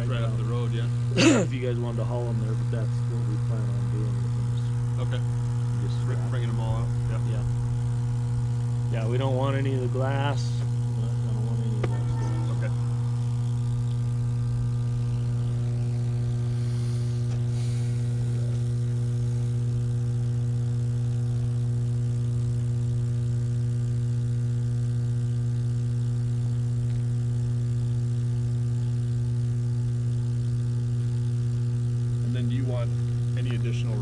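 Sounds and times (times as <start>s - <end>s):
electrical substation humming: 0.0s - 34.0s.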